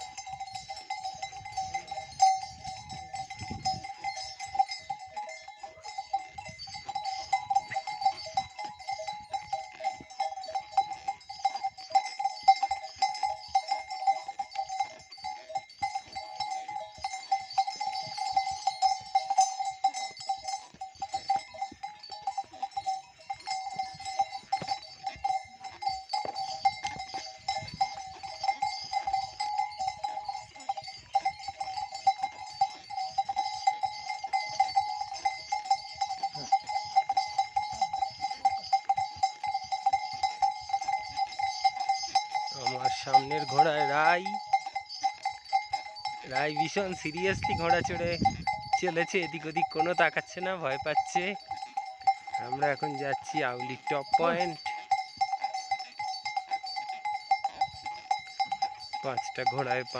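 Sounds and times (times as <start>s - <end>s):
horse bells ringing: 0.0s - 59.9s.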